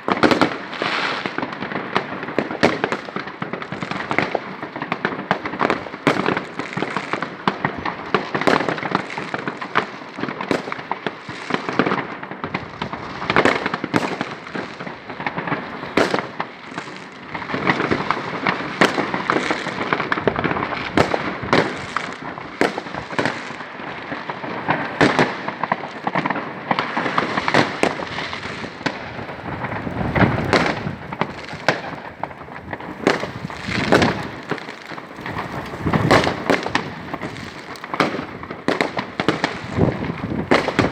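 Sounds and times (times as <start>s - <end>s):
firecrackers crackling: 0.0s - 40.9s
loud firework reports: 0.0s - 40.9s.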